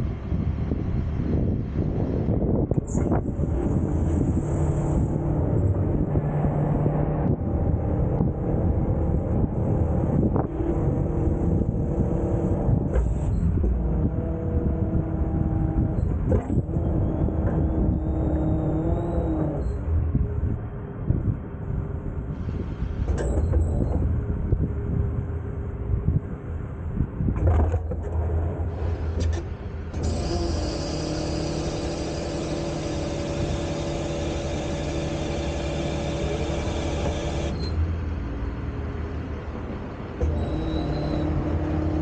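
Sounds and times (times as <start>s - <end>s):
hydraulic whine: 0.0s - 38.6s, 40.0s - 42.0s
truck engine running: 0.0s - 42.0s.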